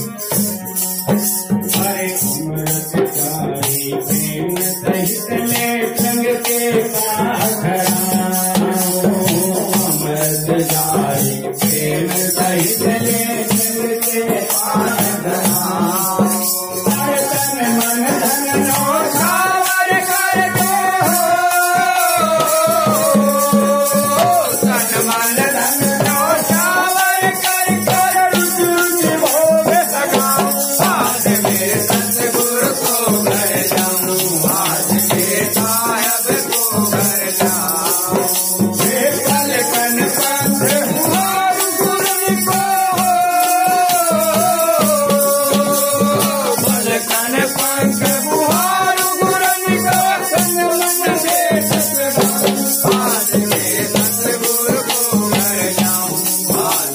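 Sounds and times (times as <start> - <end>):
man singing into microphone: 0.0 - 56.9
rattle percussion beat: 0.0 - 56.9.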